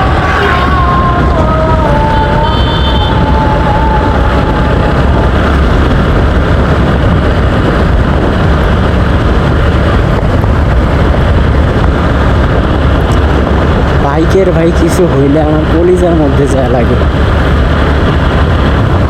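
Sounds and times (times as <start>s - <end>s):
motorcycle engine: 0.0s - 16.0s, 16.8s - 19.0s
road noise: 0.0s - 19.0s
wind rush on microphone: 0.0s - 19.0s.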